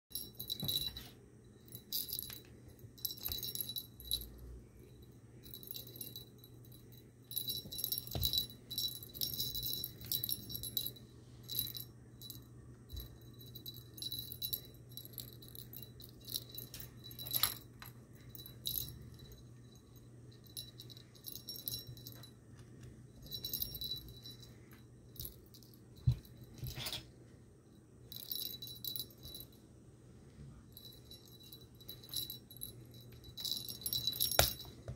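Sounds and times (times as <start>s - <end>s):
small bell jingling: 0.1s - 22.4s, 23.1s - 27.0s, 28.0s - 29.6s, 30.7s - 34.9s.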